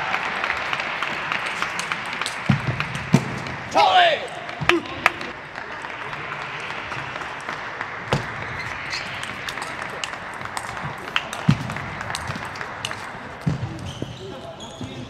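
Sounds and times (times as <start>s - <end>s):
spectators applauding: 0.0s - 13.4s.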